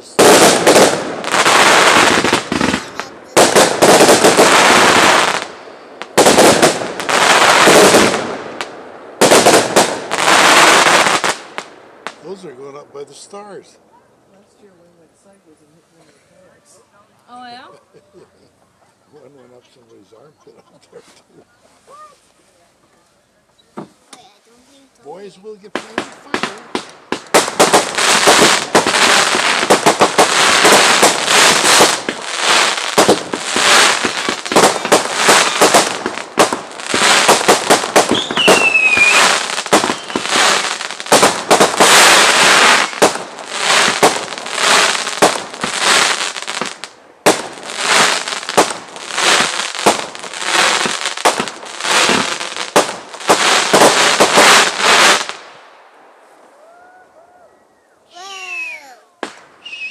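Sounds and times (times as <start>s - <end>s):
crackling fireworks: 0.0s - 13.8s, 21.4s - 57.3s, 58.1s - 59.9s.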